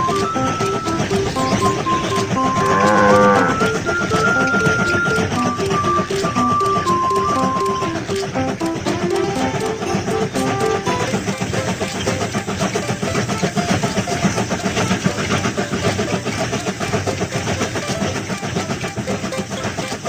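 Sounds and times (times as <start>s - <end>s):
steam train chugging and rattling: 0.0s - 20.0s.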